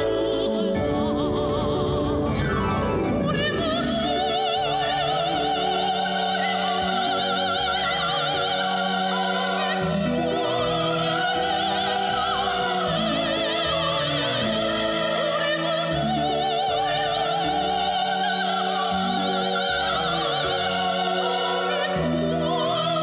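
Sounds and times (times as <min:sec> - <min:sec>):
orchestral accompaniment: 0:00.0 - 0:23.0
person singing with vibrato: 0:00.0 - 0:23.0.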